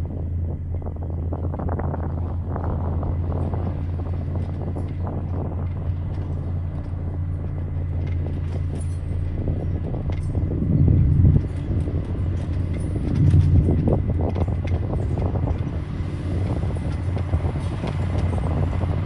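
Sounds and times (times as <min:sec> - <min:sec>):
heavy diesel engine droning: 0:00.0 - 0:19.0.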